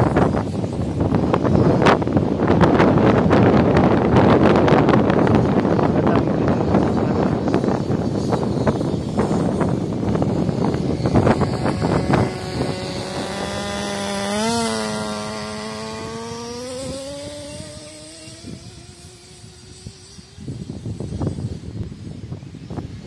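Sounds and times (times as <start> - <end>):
small nitro engine buzzing: 0.0 - 23.0
wind noise on microphone: 0.0 - 23.0.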